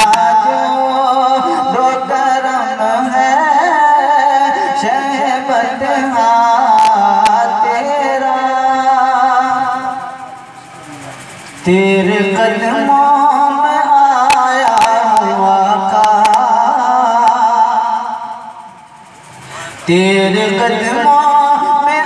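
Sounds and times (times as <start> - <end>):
man singing into a microphone: 0.0 - 10.1, 11.6 - 18.5, 19.6 - 22.0.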